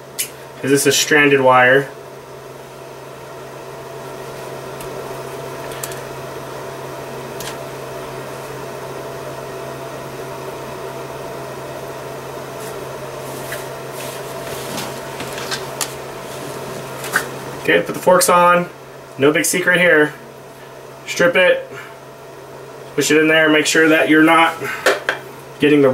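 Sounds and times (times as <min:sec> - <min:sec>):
low background hum: 0:00.0 - 0:25.9.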